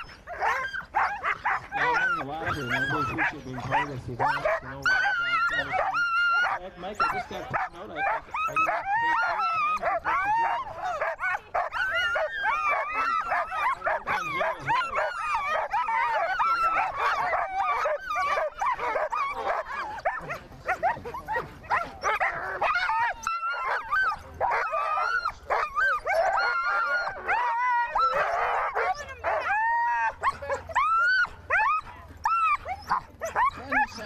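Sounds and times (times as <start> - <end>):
dogs barking and yelping: 0.0 - 34.0.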